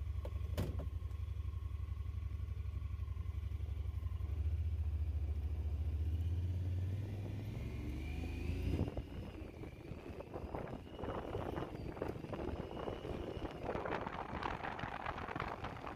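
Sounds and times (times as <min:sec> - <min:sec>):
engine running with low pulse: 0:00.0 - 0:15.9.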